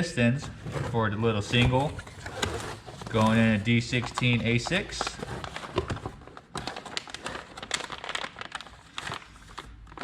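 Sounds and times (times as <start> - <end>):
packaging crinkling and rustling: 0.8 - 10.0.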